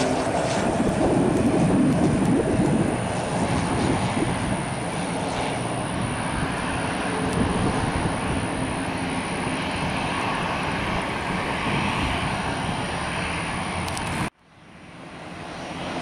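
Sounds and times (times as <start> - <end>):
turboprop engines running: 0.0 - 16.0.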